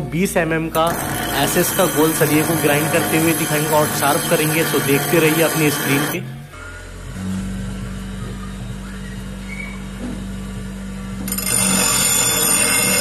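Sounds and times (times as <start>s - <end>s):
high-pitched metal grinding: 0.7s - 9.9s, 11.2s - 13.0s
bench grinder motor humming: 0.7s - 13.0s.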